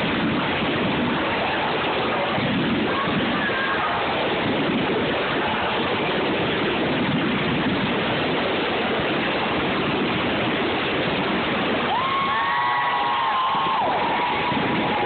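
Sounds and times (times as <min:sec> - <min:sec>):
fireworks fountains hissing: 0:00.0 - 0:15.0.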